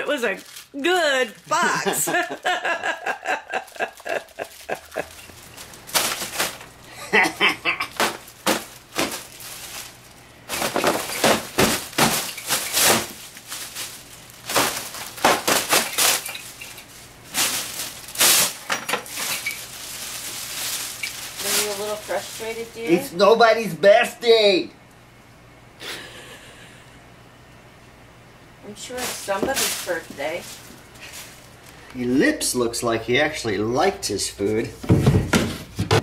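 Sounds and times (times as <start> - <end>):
foil balloons crinkling: 0.0 - 24.4, 28.7 - 34.6.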